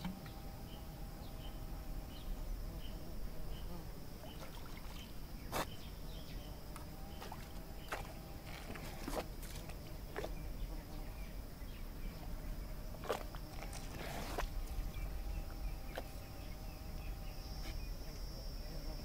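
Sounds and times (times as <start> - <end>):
faint insect chirps: 0.0 - 19.0
high insect buzz: 0.0 - 19.0.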